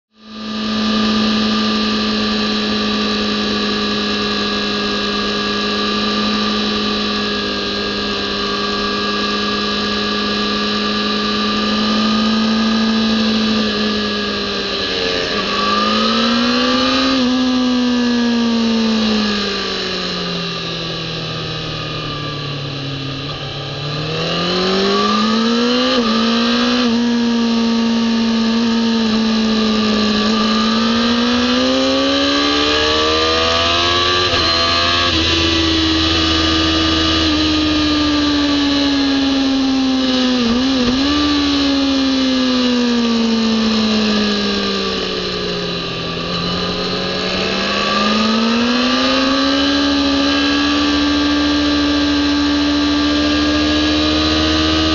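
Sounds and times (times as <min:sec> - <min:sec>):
motorcycle engine high-revving: 0:00.1 - 0:54.9.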